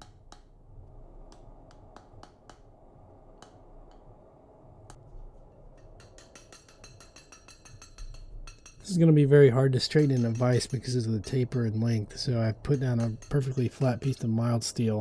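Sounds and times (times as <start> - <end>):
ticks and crackles from hot steel: 0.0 - 0.6, 1.2 - 4.2, 4.9 - 15.0.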